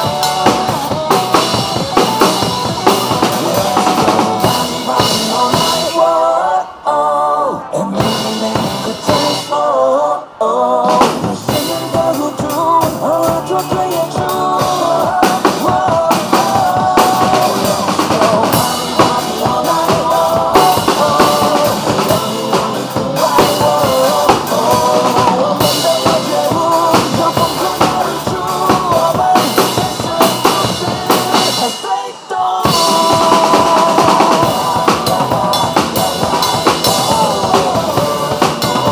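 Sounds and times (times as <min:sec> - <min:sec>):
drum kit playing: 0:00.0 - 0:06.2, 0:08.0 - 0:09.6, 0:10.9 - 0:38.9
pop-rock backing track with vocals: 0:00.0 - 0:38.9.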